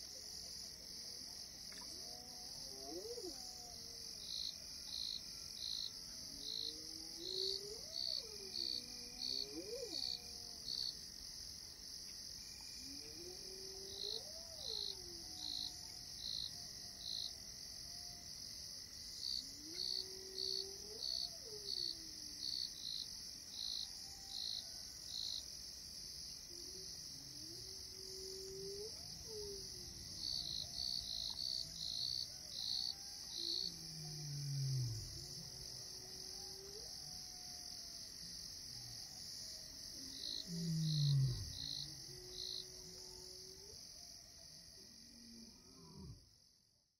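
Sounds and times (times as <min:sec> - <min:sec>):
crickets and insects chirping: 0:00.0 - 0:46.9.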